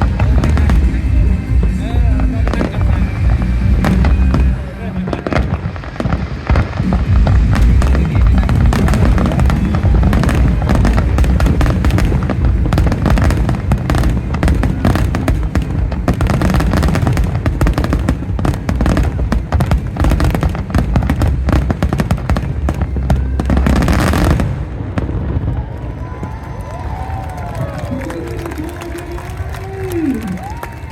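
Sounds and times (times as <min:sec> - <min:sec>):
fireworks deep booms: 0:00.0 - 0:30.6
fireworks crackling bangs: 0:00.0 - 0:30.9.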